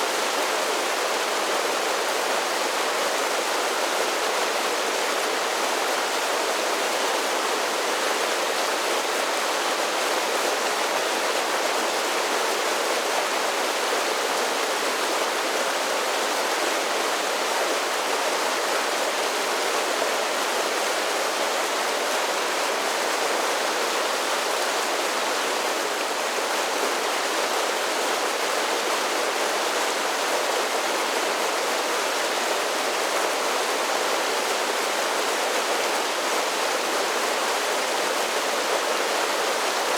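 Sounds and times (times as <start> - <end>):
water rushing down small falls: 0.0 - 39.9.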